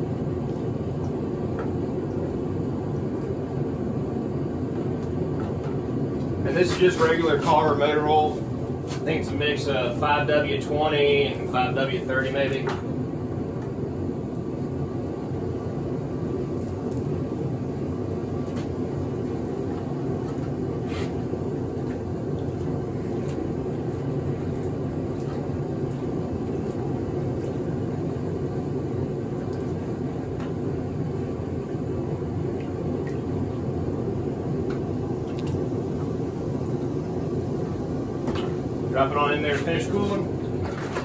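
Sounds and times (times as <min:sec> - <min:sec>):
forge furnace roaring: 0:00.0 - 0:41.0.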